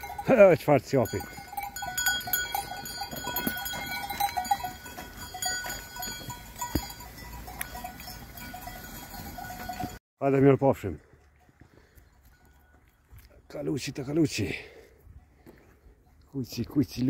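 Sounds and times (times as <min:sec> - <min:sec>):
goat bells clinking: 0:00.0 - 0:17.0.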